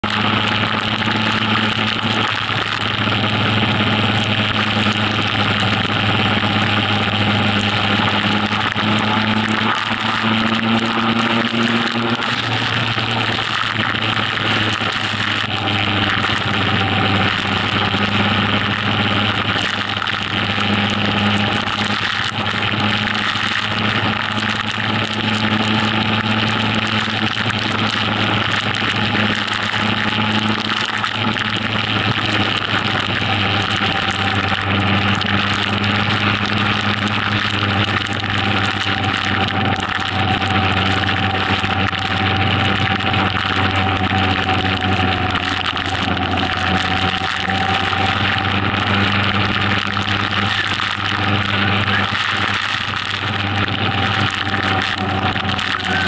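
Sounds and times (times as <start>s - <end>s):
motorcycle engine: 0.0s - 56.0s
rain: 0.0s - 56.0s
wind noise: 0.0s - 56.0s.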